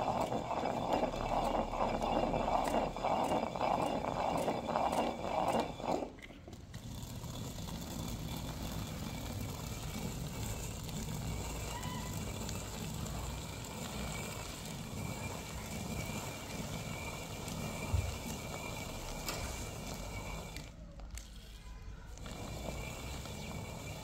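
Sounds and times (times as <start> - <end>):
stone hand mill grinding grain: 0.0 - 24.0.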